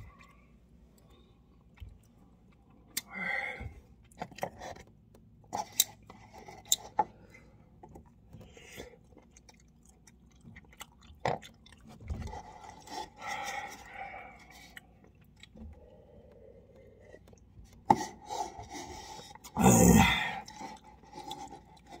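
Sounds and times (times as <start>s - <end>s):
person chewing noodles: 0.0s - 3.2s, 3.8s - 22.0s.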